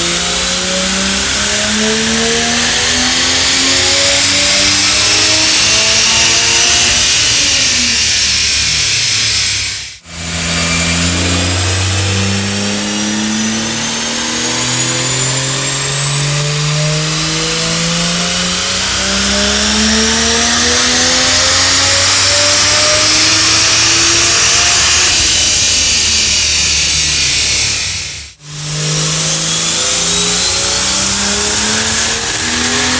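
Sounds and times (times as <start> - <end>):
car engine accelerating: 0.0 - 32.9
high whine: 0.0 - 32.9.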